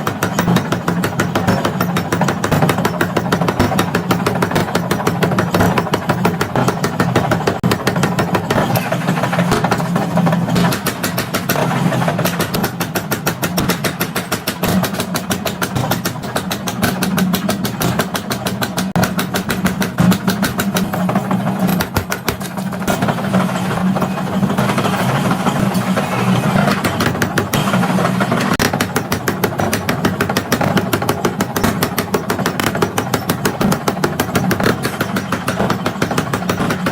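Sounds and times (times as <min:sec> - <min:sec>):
fast even clatter of knocks: 0:00.0 - 0:36.9
machinery motor hum: 0:03.4 - 0:36.0.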